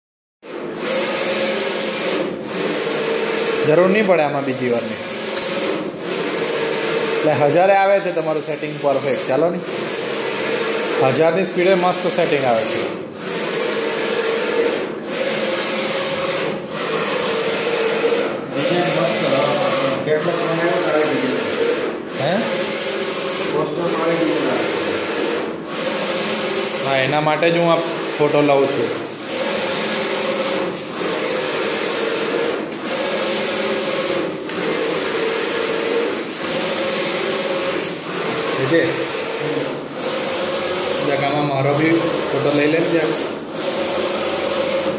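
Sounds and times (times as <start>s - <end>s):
screen printing machine running: 0.4s - 44.9s.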